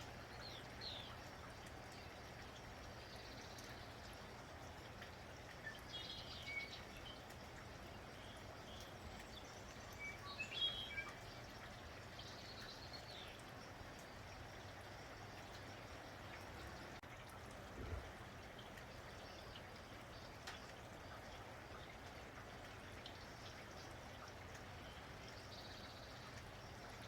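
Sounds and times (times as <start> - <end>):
light rain hiss: 0.0 - 27.0
small birds chirping: 0.2 - 17.0, 18.6 - 27.0.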